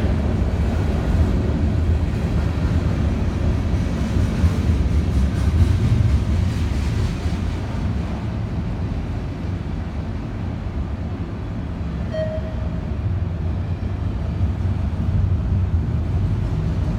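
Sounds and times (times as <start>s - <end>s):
freight train wheels rumbling: 0.0s - 16.9s.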